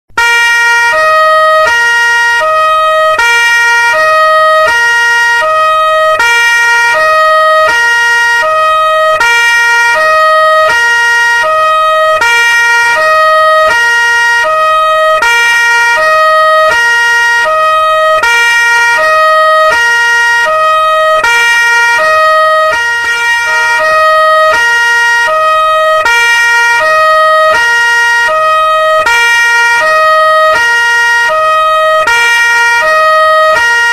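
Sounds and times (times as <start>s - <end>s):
two-tone police siren: 0.1s - 33.9s.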